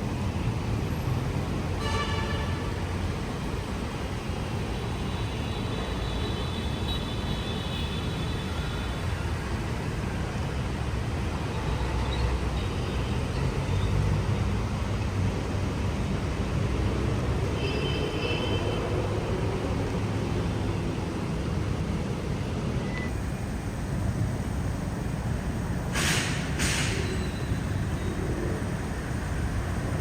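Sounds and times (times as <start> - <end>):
heavy road traffic rumble: 0.0 - 30.0.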